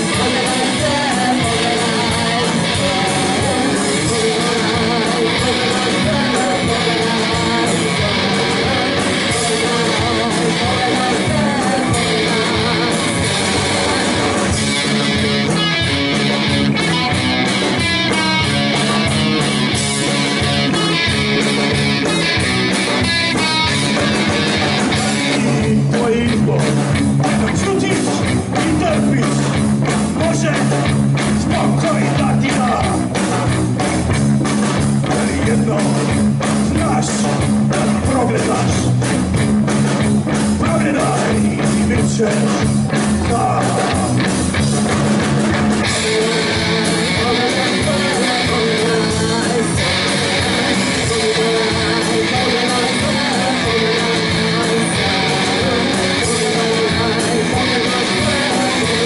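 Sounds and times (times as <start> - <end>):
person singing: 0.0 - 21.4, 22.2 - 29.4, 35.0 - 39.0, 40.6 - 44.8, 45.8 - 59.0
drum kit: 0.0 - 59.0
electric guitar: 0.0 - 59.0.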